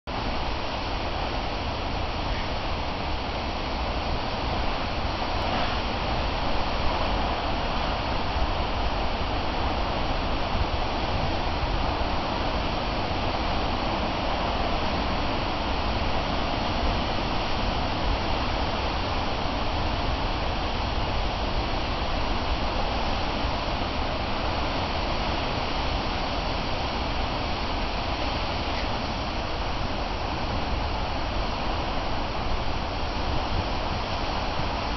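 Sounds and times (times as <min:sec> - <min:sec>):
storm surf waves breaking: 0:00.1 - 0:34.9
wind blowing on microphone: 0:00.1 - 0:34.9.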